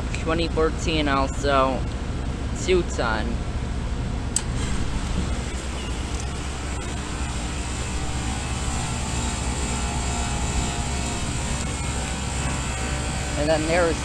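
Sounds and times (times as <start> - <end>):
heat pump fan and compressor drone: 0.0 - 14.0
low electrical hum: 0.0 - 14.0.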